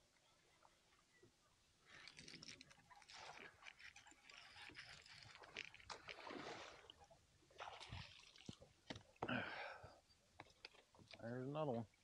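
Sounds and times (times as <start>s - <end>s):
faint water splashing: 0.0s - 12.0s.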